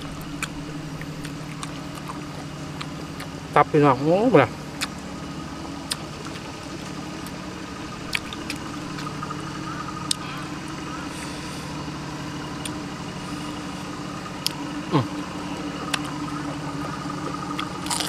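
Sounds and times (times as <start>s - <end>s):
tractor engine humming: 0.0s - 18.0s.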